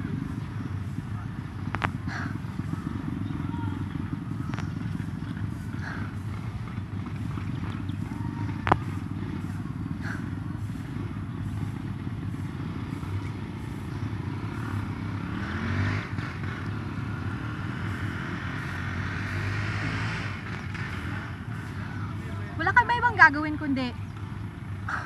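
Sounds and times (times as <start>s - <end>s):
rumble of motor traffic: 0.0s - 25.0s
vehicle passing: 0.0s - 25.0s.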